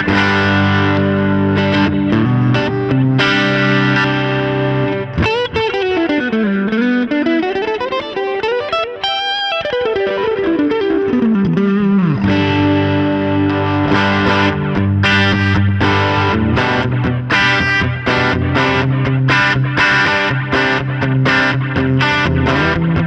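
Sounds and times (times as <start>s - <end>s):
electric guitar chords and lead: 0.0s - 23.0s.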